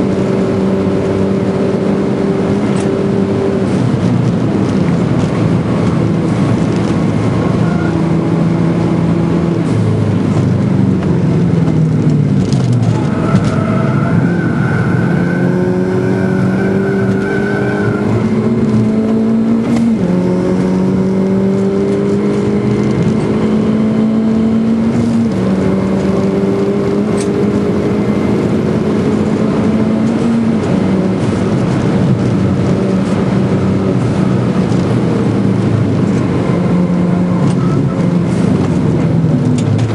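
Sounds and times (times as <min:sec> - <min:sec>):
car engine from inside cabin: 0:00.0 - 0:39.9
tyre and road noise: 0:00.0 - 0:39.9.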